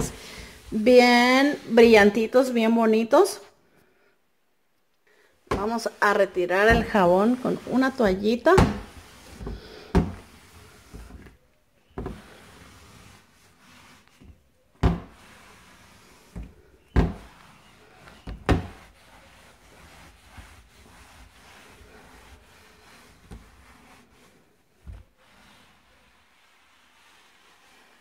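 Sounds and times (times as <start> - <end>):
cloth rubbing: 5.5 - 28.0.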